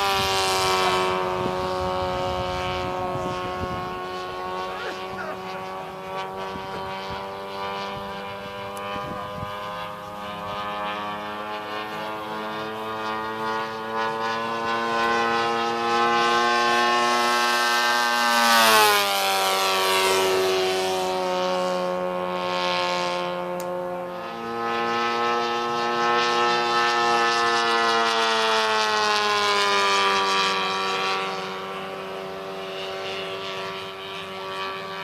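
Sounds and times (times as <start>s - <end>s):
model plane engine droning: 0.0s - 35.0s.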